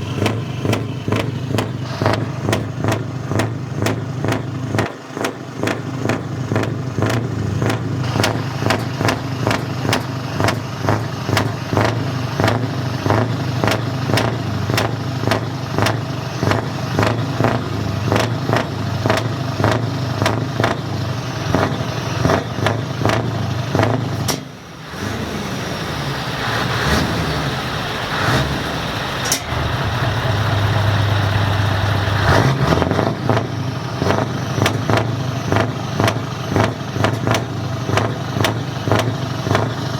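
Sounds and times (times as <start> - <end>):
engine revving: 0.0 - 39.9
truck engine exhaust crackling: 0.0 - 39.9.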